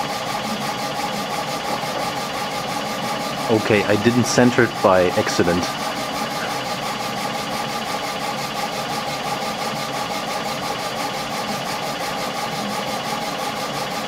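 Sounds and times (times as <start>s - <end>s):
laser engraver humming and pulsing: 0.0s - 14.0s.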